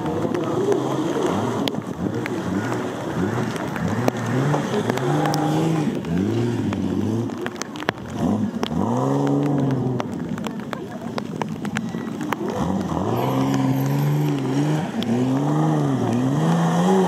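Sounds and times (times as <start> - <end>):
racing engine revving: 0.0 - 10.4, 12.3 - 17.0.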